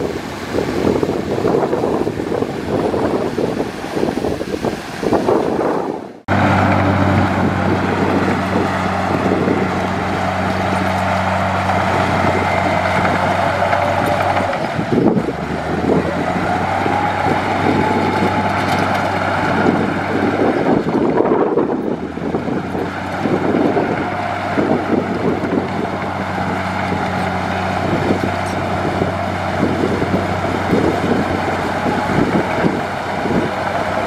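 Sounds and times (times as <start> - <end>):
heavy diesel engine running: 0.0 - 34.0
wind noise on microphone: 0.0 - 34.0.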